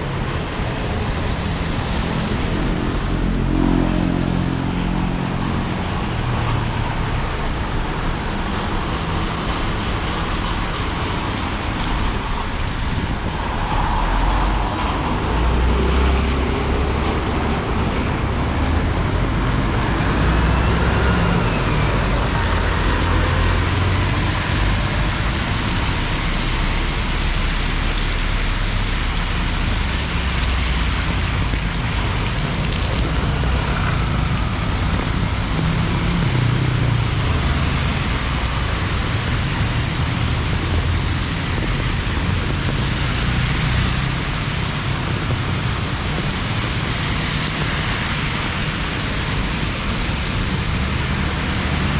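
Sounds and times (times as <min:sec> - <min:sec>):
passing vehicles on wet road: 0:00.0 - 0:51.9
rain hissing: 0:05.2 - 0:51.9.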